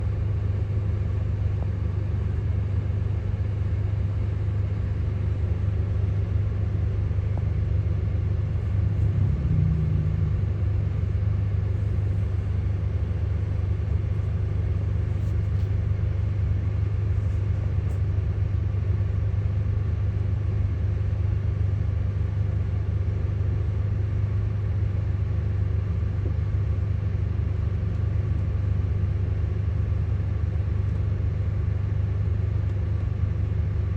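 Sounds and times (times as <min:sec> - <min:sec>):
road traffic rumble: 0:00.0 - 0:33.9.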